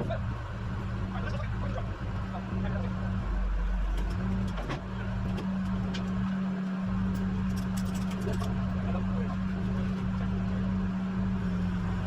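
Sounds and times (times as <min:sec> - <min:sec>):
tow truck engine droning: 0:00.0 - 0:12.0.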